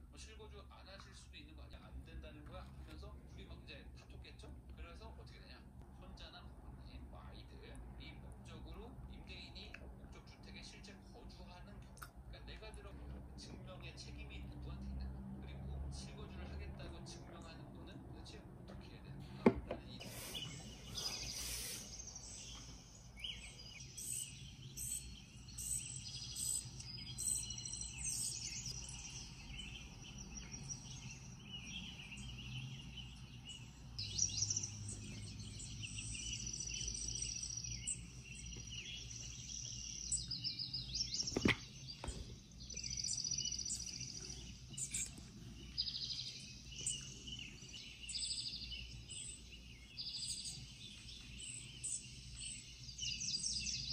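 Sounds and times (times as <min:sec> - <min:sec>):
recorded birdsong from speaker: 0:00.0 - 0:53.9.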